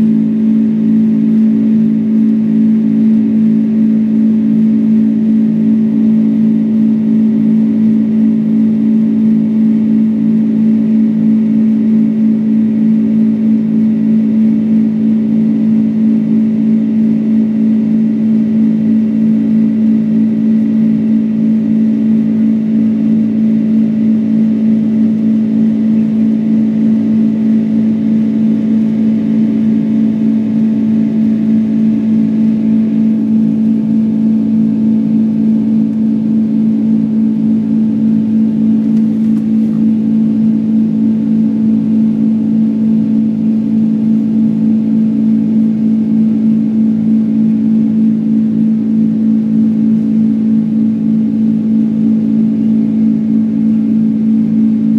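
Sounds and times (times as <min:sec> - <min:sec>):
jet engine drone in cabin: 0:00.0 - 0:54.9.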